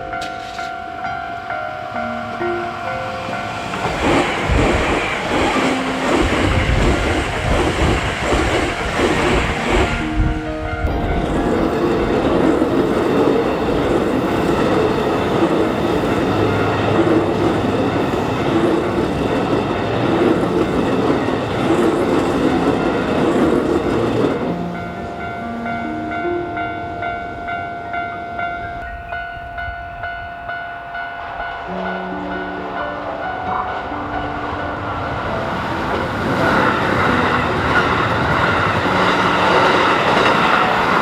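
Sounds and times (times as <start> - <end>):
electric train wheel noise: 0.0 - 25.7, 28.7 - 41.0.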